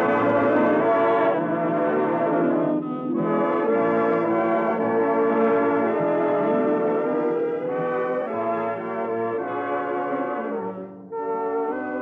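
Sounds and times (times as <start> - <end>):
orchestral brass chords: 0.0 - 12.0.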